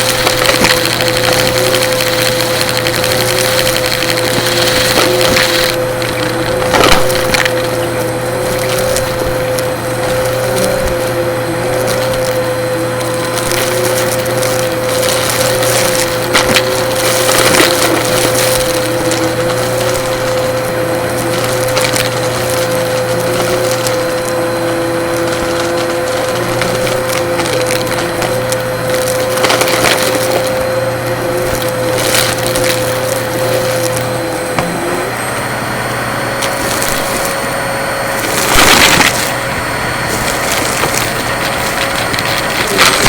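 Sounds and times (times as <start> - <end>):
debris crackling through vacuum: 0.0 - 35.4, 36.3 - 43.0
vacuum cleaner motor whine: 0.0 - 43.0.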